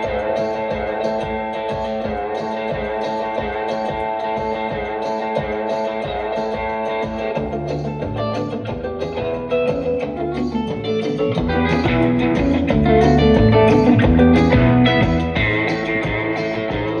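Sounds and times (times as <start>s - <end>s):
guitar music with strong bass: 0.0s - 17.0s.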